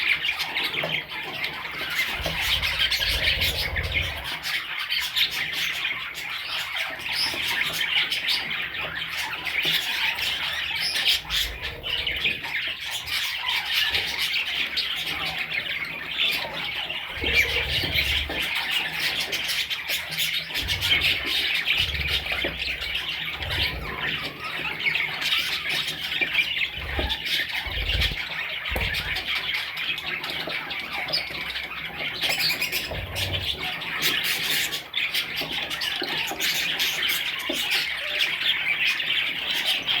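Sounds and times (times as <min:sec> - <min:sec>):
budgerigars chattering and squawking: 0:00.0 - 0:40.0.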